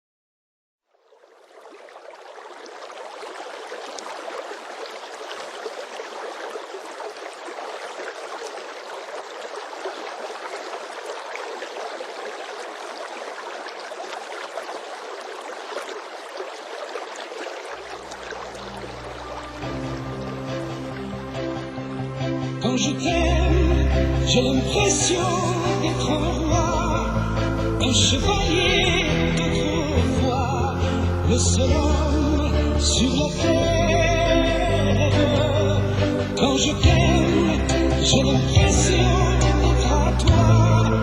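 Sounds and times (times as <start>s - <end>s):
stream water rushing: 1.0s - 41.0s.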